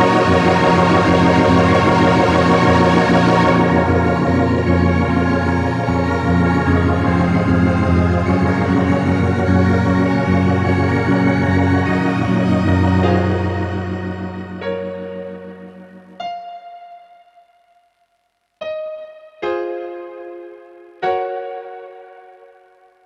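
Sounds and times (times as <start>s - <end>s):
sustained organ-like keyboard chords: 0.0s - 23.0s.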